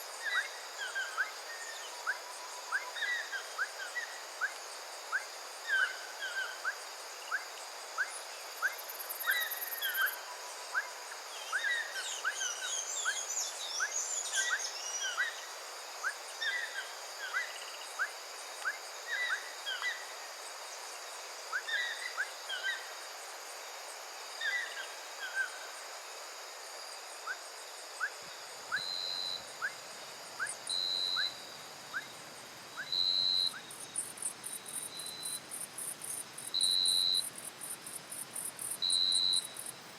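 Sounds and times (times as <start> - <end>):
high-pitched insect hum: 0.0 - 39.9.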